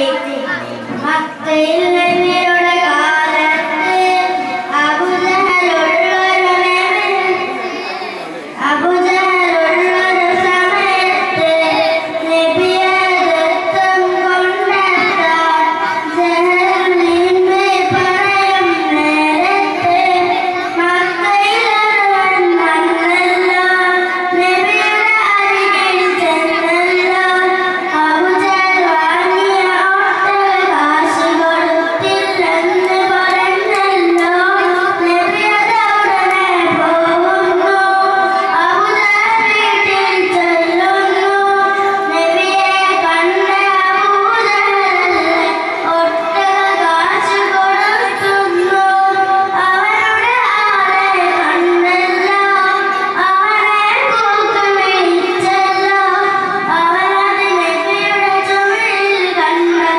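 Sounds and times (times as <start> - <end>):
boy singing into a microphone: 0.0 - 59.9.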